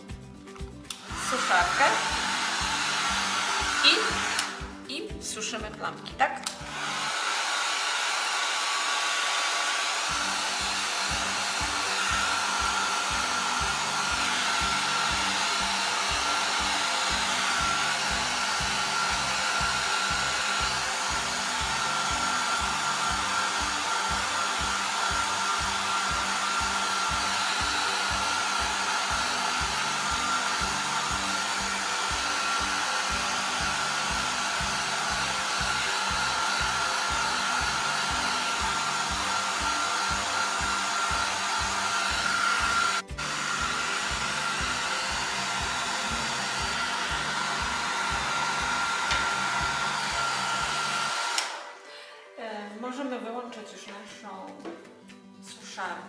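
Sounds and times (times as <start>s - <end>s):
hair dryer running: 0.0s - 52.2s.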